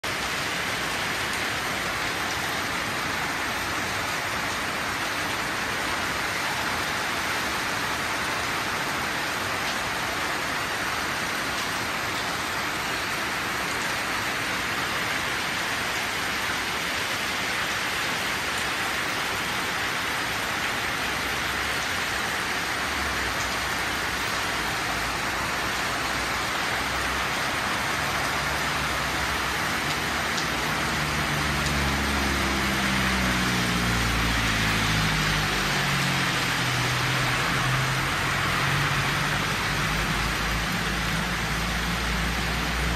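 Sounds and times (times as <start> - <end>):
rain falling on leaves: 0.0 - 42.9.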